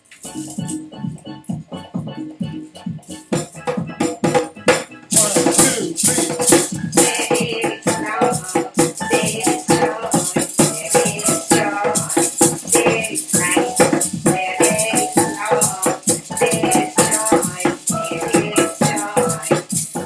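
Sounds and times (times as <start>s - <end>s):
maraca shaking: 0.0s - 20.0s
djembe hand drumming: 1.1s - 20.0s.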